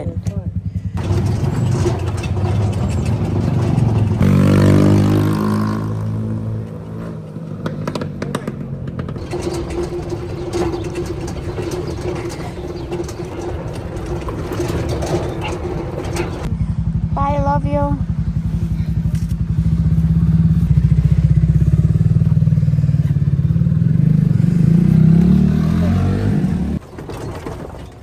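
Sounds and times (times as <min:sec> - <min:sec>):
vehicle engine revving: 0:01.0 - 0:17.3, 0:18.0 - 0:26.8.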